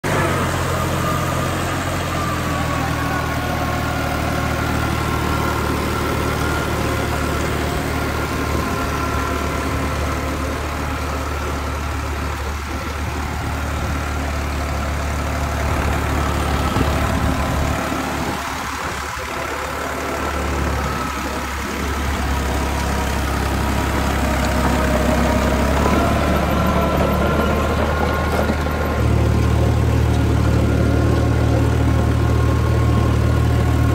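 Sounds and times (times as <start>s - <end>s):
tractor engine running under load: 0.0s - 33.9s.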